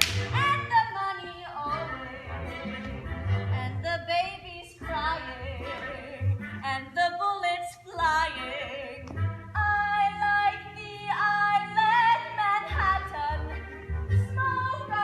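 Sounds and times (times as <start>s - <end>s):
musical accompaniment: 0.0s - 15.0s
woman singing: 0.3s - 2.5s, 3.6s - 13.6s, 14.2s - 15.0s.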